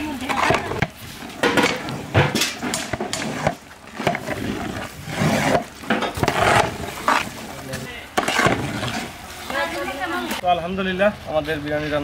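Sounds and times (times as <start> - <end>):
metal spatula scraping a pot: 0.0 - 10.0.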